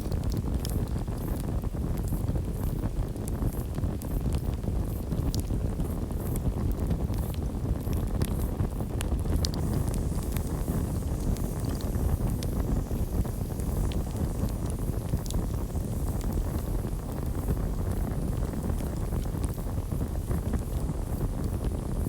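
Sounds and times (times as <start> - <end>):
fire crackles and pops: 0.0 - 22.0
flames rumbling: 0.0 - 22.0.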